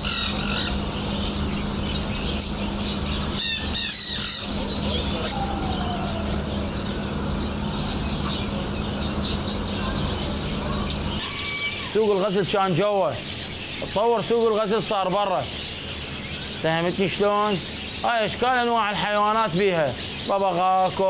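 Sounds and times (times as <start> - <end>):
steady low hum: 0.0 - 20.6
cage birds chirping and chattering: 0.0 - 21.0.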